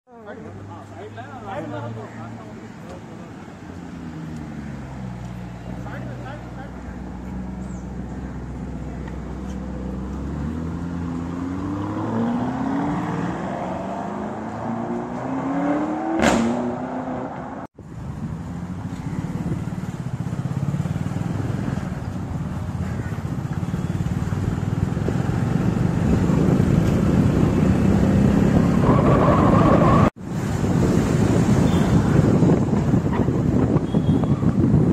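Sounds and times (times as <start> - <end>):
road and wind noise: 0.1 - 34.9
vehicle engines accelerating: 0.3 - 34.9.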